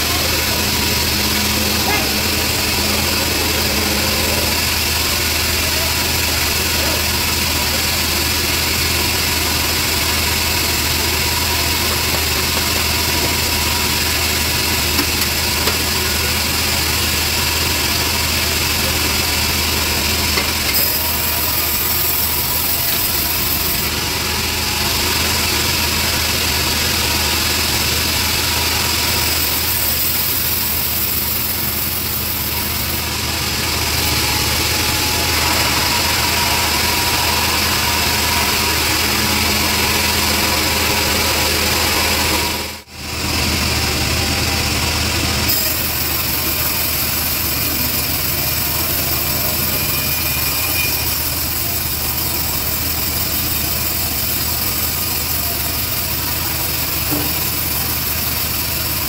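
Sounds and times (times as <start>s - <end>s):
band sawmill sawing timber: 0.0s - 59.0s.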